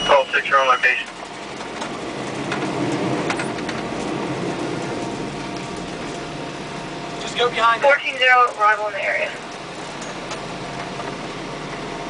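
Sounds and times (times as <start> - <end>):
truck engine and cab noise: 0.0 - 12.0.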